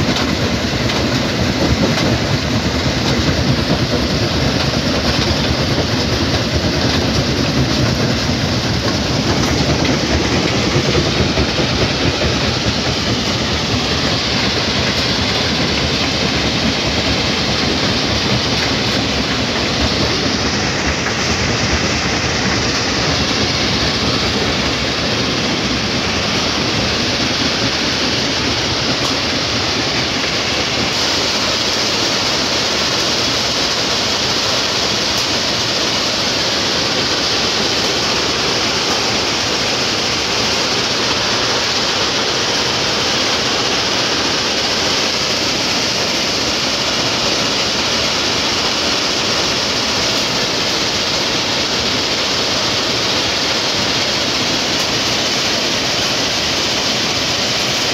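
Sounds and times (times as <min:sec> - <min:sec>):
stone crusher plant running: 0:00.0 - 0:57.9.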